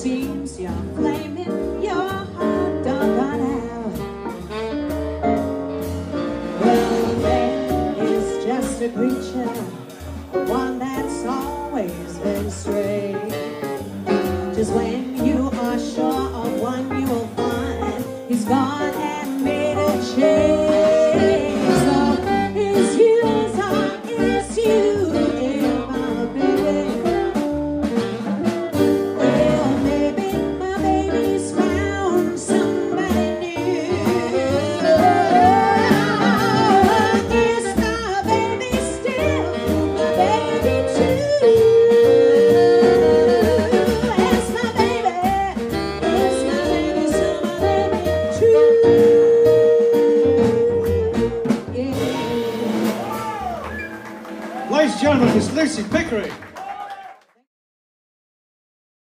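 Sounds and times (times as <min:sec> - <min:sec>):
double bass: 0:00.0 - 0:56.2
drums: 0:00.0 - 0:56.9
piano: 0:00.0 - 0:57.0
saxophone: 0:01.0 - 0:55.3.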